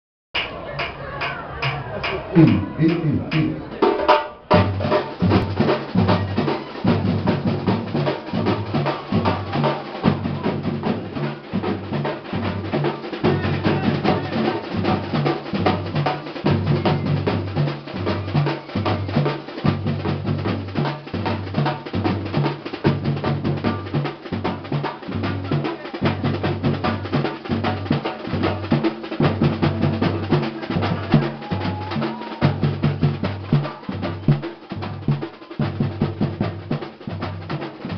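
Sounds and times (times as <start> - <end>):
rapid snare drum strokes: 0.4 - 37.9
samba percussion ensemble: 0.8 - 37.9
deep bass drums: 4.5 - 37.9.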